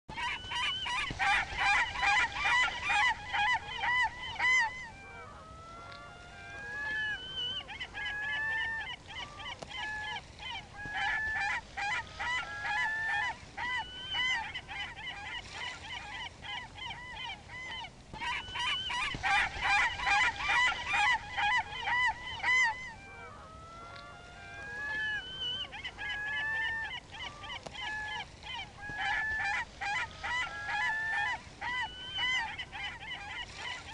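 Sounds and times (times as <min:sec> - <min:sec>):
seagulls squawking: 0:00.1 - 0:33.9.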